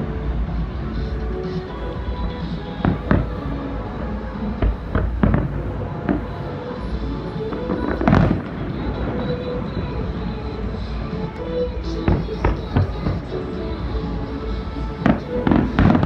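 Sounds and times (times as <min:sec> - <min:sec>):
steady low rumble: 0:00.0 - 0:16.0
fireworks bursting with sharp bangs: 0:02.2 - 0:16.0.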